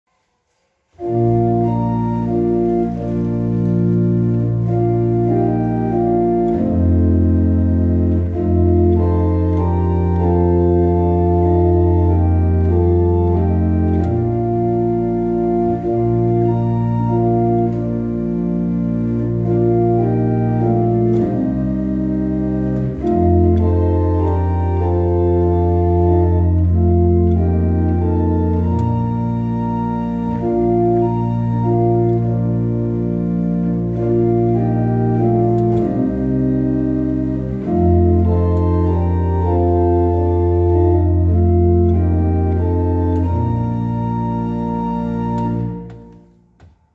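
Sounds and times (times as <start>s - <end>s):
pipe organ playing a hymn: 0.9s - 46.4s.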